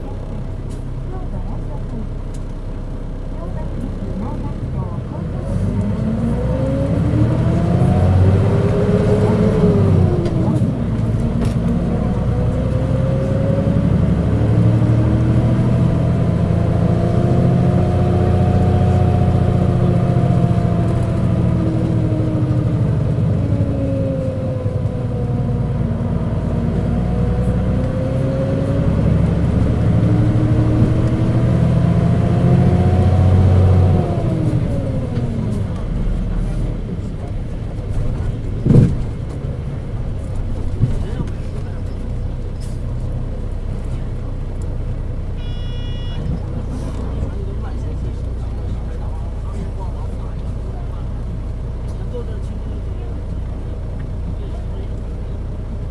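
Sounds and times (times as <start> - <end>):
bus engine running: 0.0 - 55.9.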